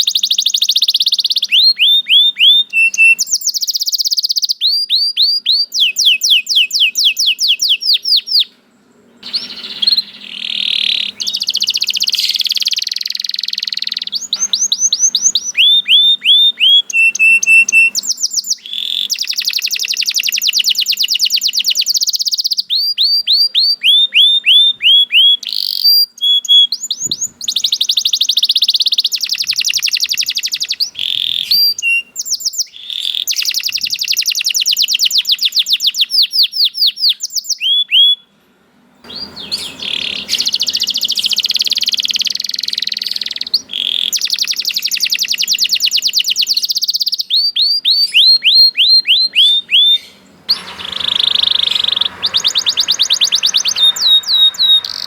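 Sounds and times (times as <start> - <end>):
canary singing trills: 0.0 - 38.3, 39.0 - 55.0.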